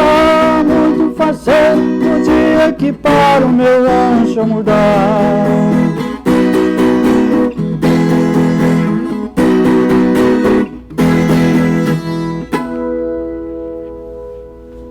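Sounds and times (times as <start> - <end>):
acoustic guitar strumming chords: 0.0 - 14.9.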